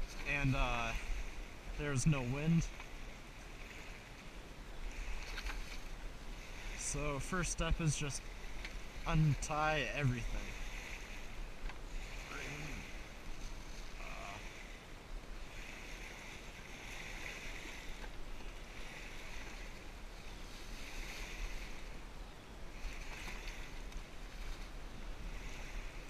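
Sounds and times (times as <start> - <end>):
small waves lapping: 0.0 - 26.0.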